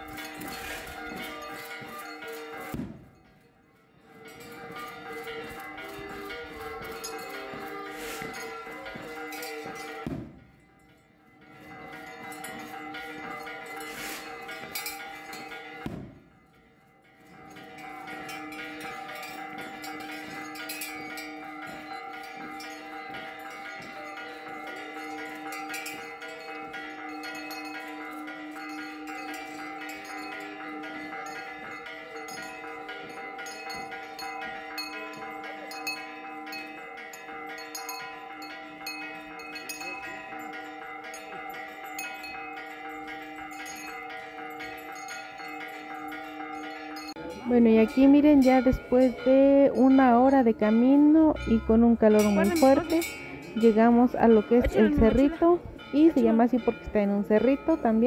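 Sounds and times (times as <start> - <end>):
bells chiming: 0.0 - 58.0.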